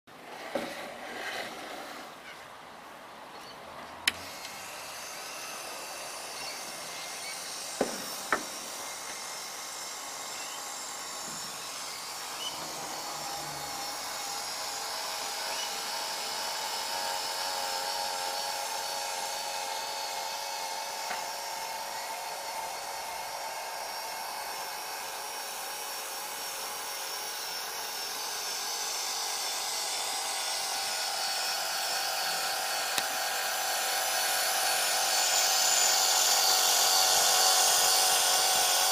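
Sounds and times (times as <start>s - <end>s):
toy truck motor whining: 4.0s - 38.9s.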